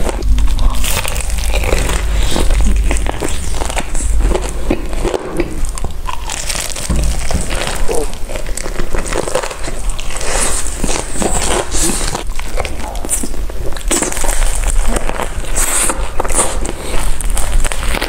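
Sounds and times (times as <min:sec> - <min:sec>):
crunchy food being chewed: 0:00.0 - 0:18.0.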